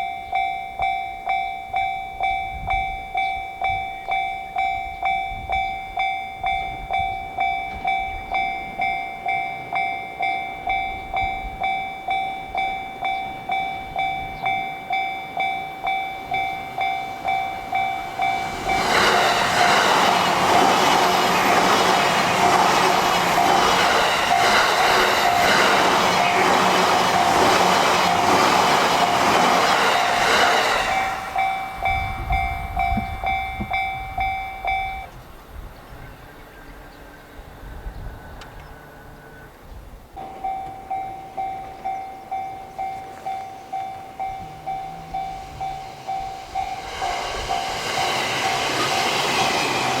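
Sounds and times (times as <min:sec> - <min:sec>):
level crossing warning bell: 0:00.0 - 0:35.2, 0:38.6 - 0:50.0
train rumble and wheel noise: 0:00.0 - 0:50.0.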